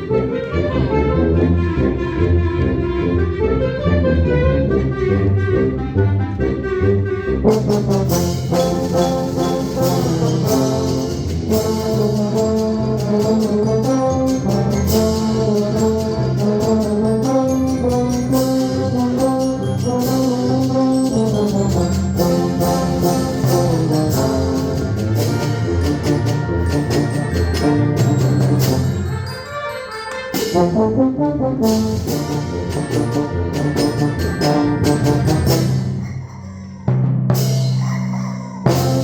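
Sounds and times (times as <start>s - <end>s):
brass band playing: 0.0s - 36.0s, 38.6s - 39.0s
sharp percussion strokes: 7.6s - 39.0s.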